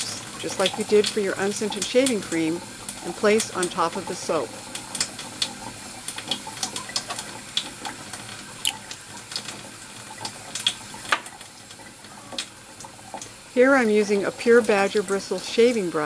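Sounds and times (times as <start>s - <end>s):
water running from a tap: 0.0s - 16.0s.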